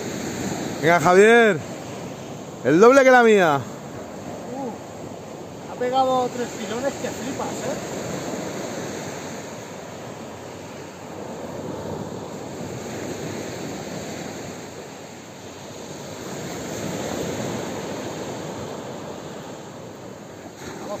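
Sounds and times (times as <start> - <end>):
surf breaking on beach: 0.0 - 21.0.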